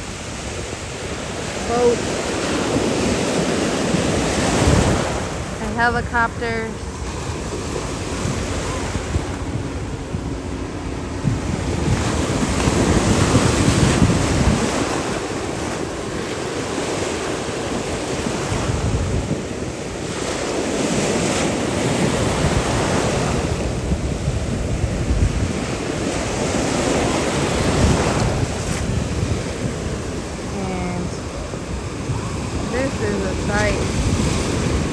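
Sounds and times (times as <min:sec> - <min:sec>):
ocean surf breaking: 0:00.0 - 0:34.9
wind buffeting microphone: 0:00.0 - 0:34.9.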